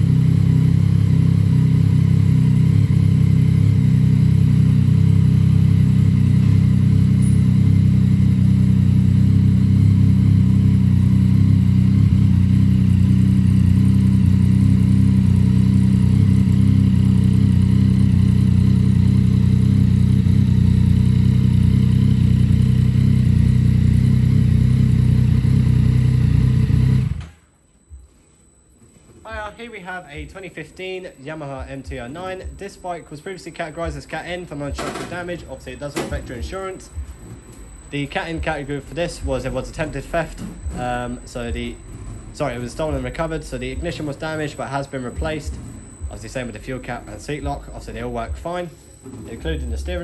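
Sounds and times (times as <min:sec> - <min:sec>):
motorcycle engine idling: 0:00.0 - 0:27.3, 0:34.7 - 0:48.5.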